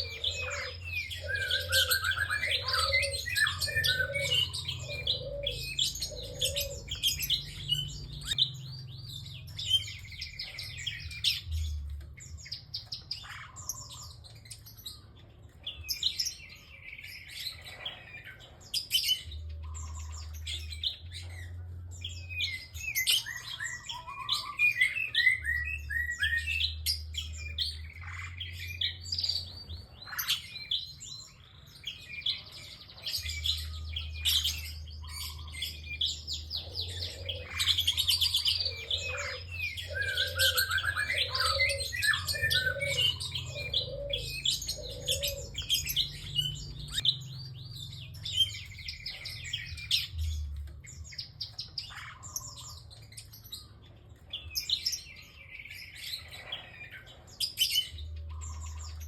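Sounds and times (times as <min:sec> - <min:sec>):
bird chirps and trills: 0:00.0 - 0:59.0.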